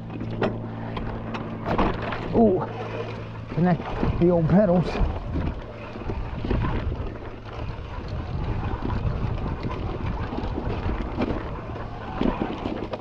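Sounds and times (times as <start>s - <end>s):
bike rattling over rock: 0.0s - 13.0s
wind buffeting microphone: 0.0s - 13.0s.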